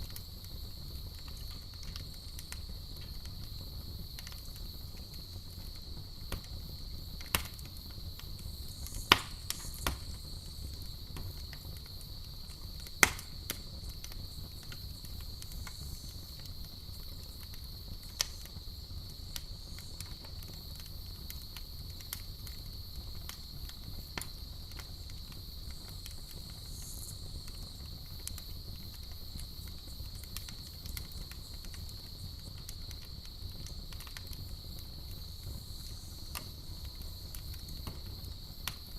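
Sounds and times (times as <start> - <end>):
campfire crackling and popping: 0.0 - 38.9
crickets trilling: 0.0 - 38.9
low rumble of flames: 0.0 - 38.9.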